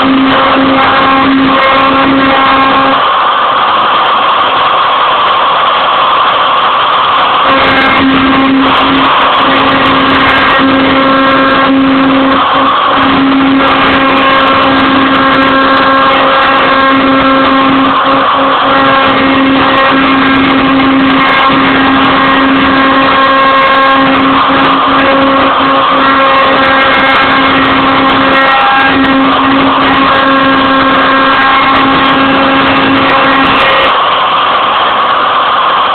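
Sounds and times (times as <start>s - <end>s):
router spindle whine: 0.0s - 35.9s
rushing cutting noise: 0.0s - 35.9s.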